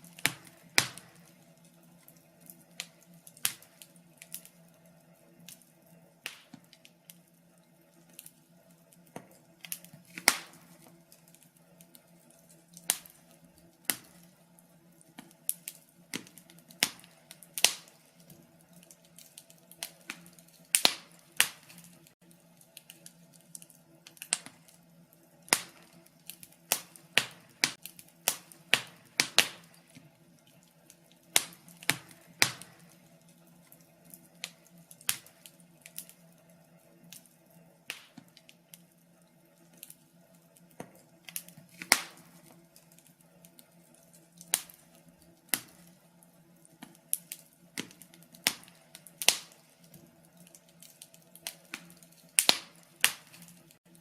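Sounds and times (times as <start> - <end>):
faint steady hum: 0.0 - 54.0
logs crackling and popping: 0.0 - 54.0.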